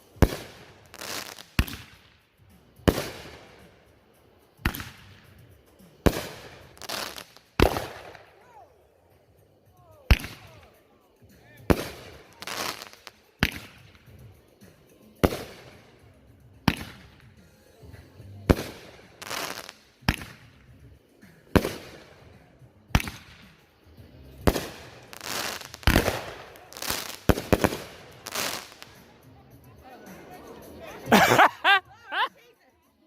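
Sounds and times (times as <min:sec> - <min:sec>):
firework cake shots: 0:00.2 - 0:08.5, 0:09.9 - 0:17.5, 0:18.2 - 0:23.7, 0:24.4 - 0:32.3.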